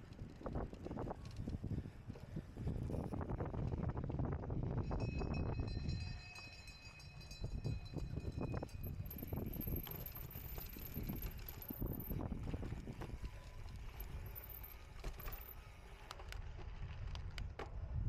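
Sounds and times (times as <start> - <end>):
bike chain and frame rattling: 0.0 - 17.4
wind and tyres rumbling: 0.0 - 18.0.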